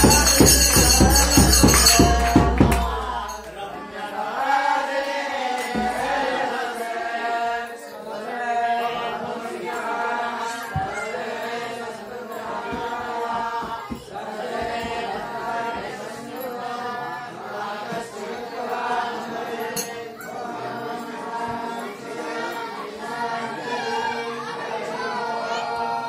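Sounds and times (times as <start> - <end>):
congregation chanting a hymn: 0.0 - 26.0.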